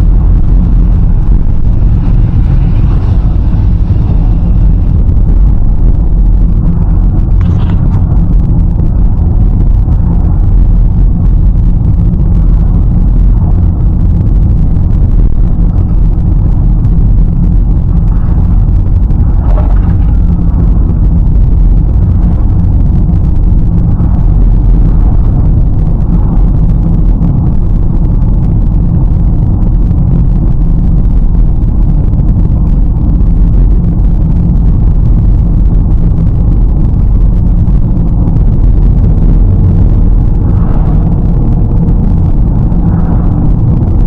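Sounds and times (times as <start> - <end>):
tyres rumbling on rough road: 0.0 - 44.0.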